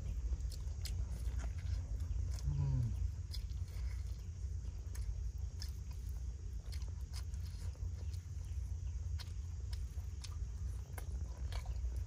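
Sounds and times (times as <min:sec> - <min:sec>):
person chewing food: 0:00.0 - 0:12.0
steady low rumble: 0:00.0 - 0:12.0.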